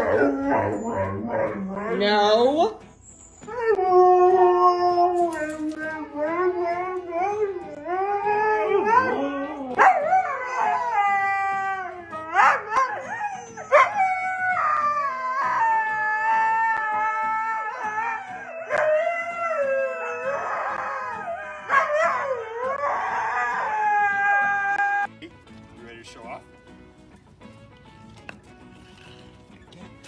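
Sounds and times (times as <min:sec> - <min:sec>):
dog howling: 0:00.0 - 0:25.1.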